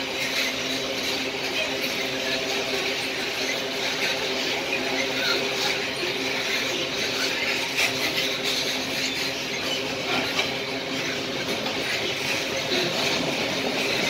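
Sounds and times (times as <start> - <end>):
steel wheels rolling on rail: 0.0 - 14.0.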